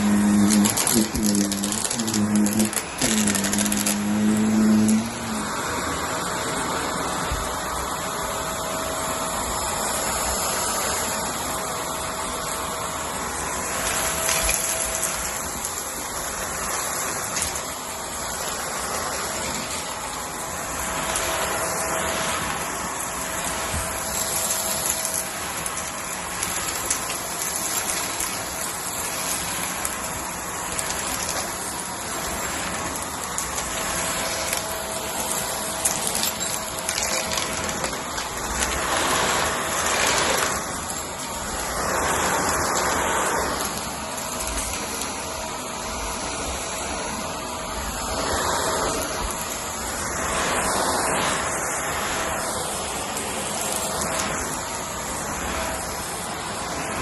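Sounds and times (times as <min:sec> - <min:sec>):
vacuum cleaner running over rug: 0:00.0 - 0:57.0.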